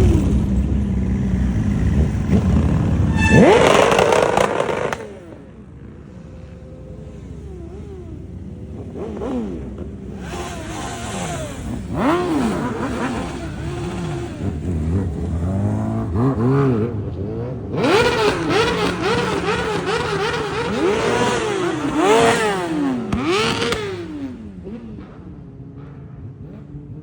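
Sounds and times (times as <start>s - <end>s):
motorcycle throttle blips: 0.0s - 26.9s
motorcycle engines revving: 0.0s - 27.0s.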